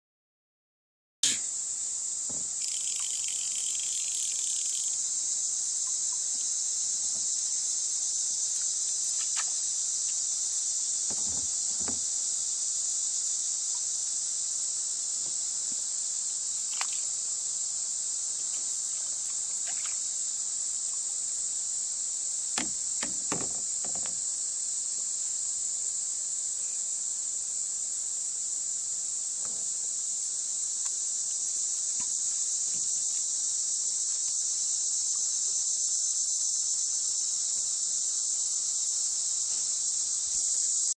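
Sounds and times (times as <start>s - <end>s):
insects buzzing: 1.2s - 40.9s.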